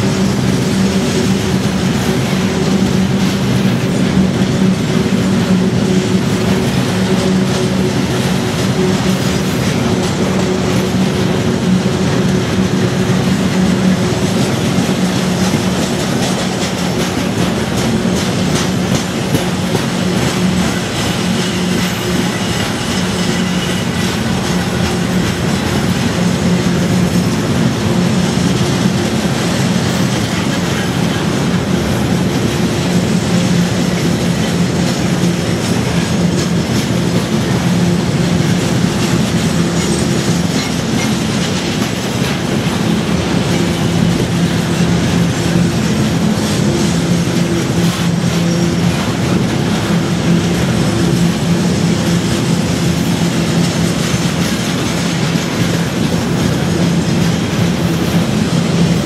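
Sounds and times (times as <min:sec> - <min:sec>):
freight train rolling past: 0:00.0 - 0:59.0
steel wheels clattering on rails: 0:00.0 - 0:59.0.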